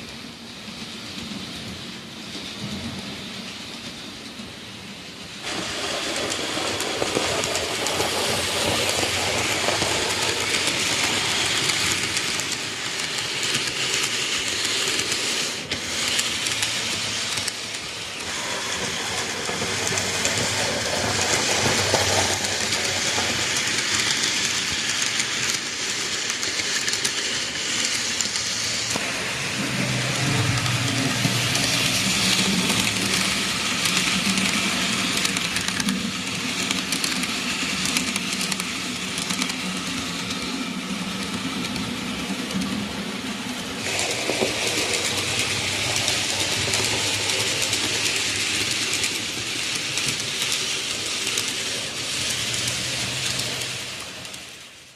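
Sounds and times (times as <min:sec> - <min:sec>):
model train wheels rattling: 0:05.4 - 0:54.8.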